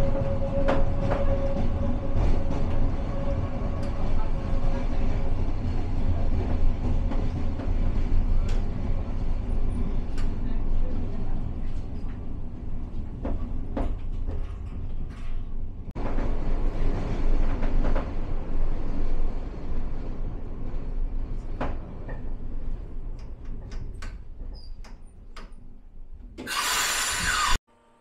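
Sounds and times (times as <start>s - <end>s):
rack railway train rumbling: 0.0s - 26.4s.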